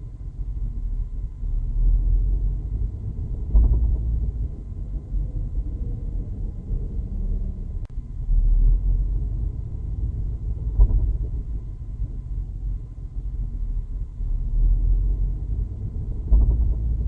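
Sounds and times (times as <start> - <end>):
car drivetrain rumble: 0.0 - 17.0.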